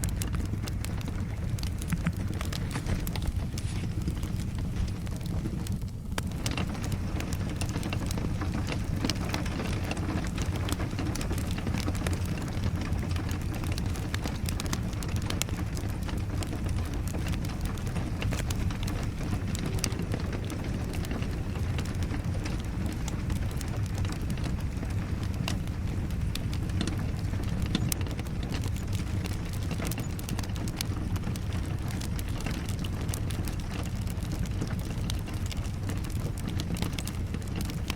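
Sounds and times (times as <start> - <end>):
steady rain: 0.0 - 37.9
wood fire crackling: 0.0 - 37.9.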